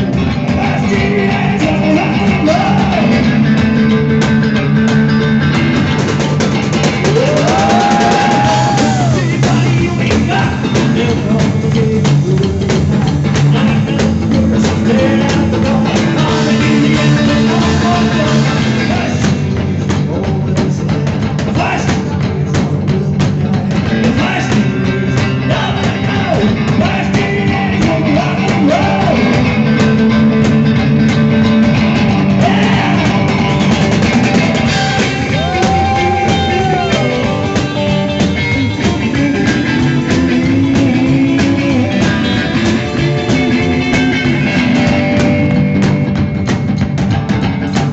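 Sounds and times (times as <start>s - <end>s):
drum kit: 0.0s - 47.9s
electric guitar: 0.0s - 47.9s
rock band playing live: 0.0s - 47.9s.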